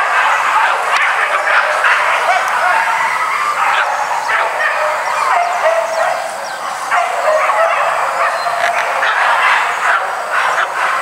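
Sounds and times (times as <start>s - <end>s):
dogs barking and yelping: 0.0s - 11.0s.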